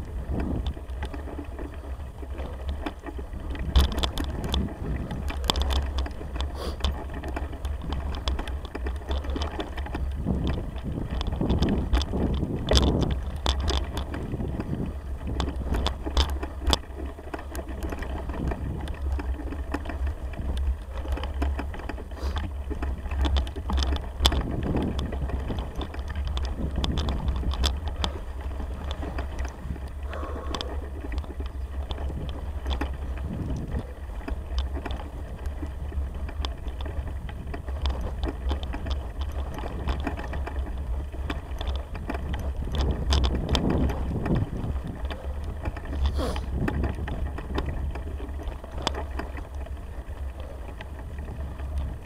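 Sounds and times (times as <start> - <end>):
bicycle clicks and knocks: 0.0 - 52.0
wind rumble on microphone: 0.0 - 52.0.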